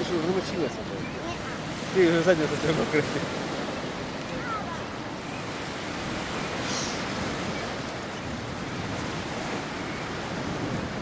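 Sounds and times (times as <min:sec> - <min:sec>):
sea surf on shore: 0:00.0 - 0:11.0
wind buffeting microphone: 0:00.0 - 0:11.0.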